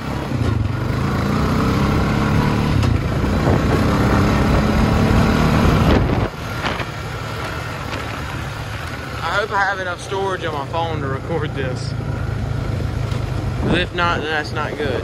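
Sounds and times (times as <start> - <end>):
four-wheeler engine revving: 0.0 - 15.0.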